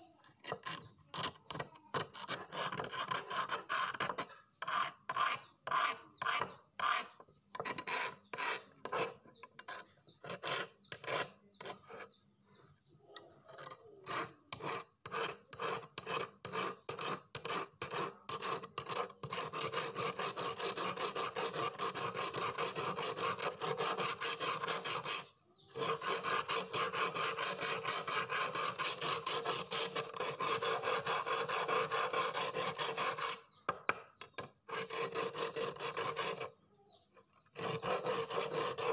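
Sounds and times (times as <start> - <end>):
hand file rasping on steel: 0.4 - 12.2, 13.4 - 36.6, 37.4 - 38.9.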